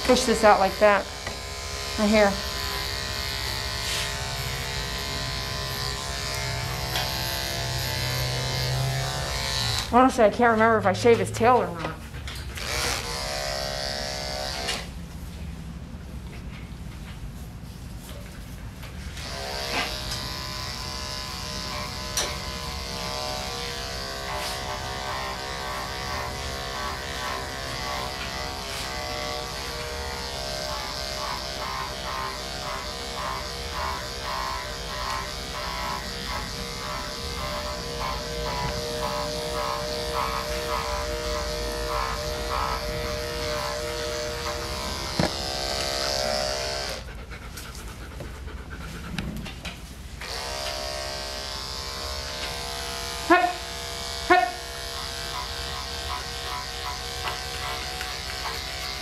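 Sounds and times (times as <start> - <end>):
electric dog clipper buzzing: 0.0 - 10.2, 12.6 - 15.0, 19.1 - 47.1, 50.2 - 59.0.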